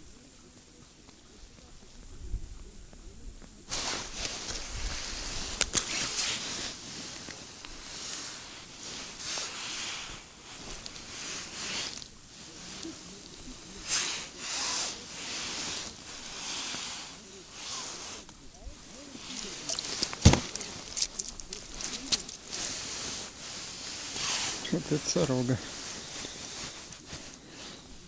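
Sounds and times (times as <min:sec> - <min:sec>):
fabric rubbing on microphone: 0:03.7 - 0:28.0.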